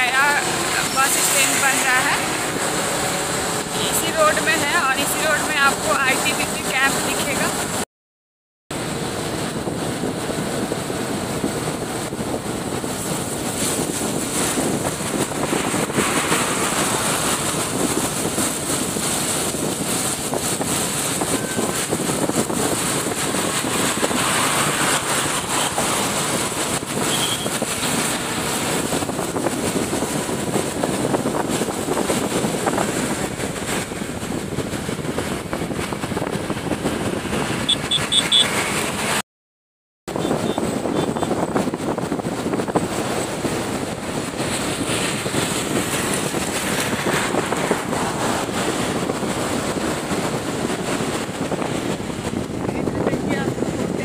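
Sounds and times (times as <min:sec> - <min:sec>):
motorcycle road noise: 0:00.0 - 0:07.8, 0:08.7 - 0:39.2, 0:40.1 - 0:54.0
wind on microphone: 0:00.0 - 0:07.8, 0:08.7 - 0:39.2, 0:40.1 - 0:54.0.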